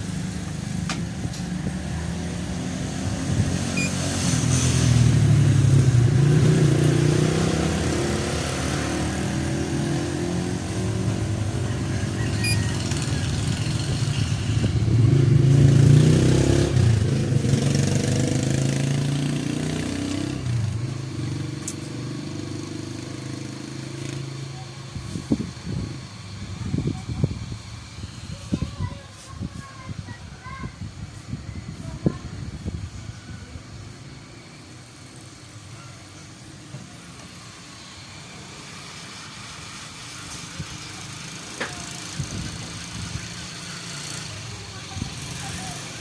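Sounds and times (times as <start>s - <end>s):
motorcycles passing by: 0.0s - 46.0s.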